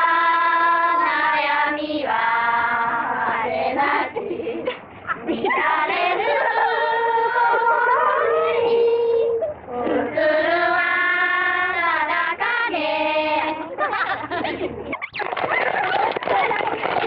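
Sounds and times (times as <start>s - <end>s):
women singing unaccompanied: 0.0s - 13.8s.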